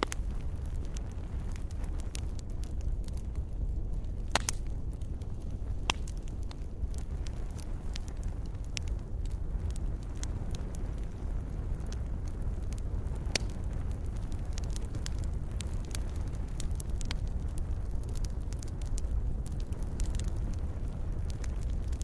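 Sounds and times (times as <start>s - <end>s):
fire crackling and popping: 0.0s - 22.0s
wood fire rumbling: 0.0s - 22.0s.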